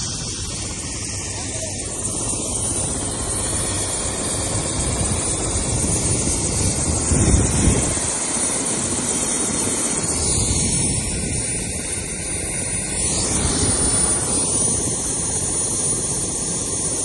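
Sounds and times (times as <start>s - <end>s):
helicopter rotor turning: 0.0s - 17.0s.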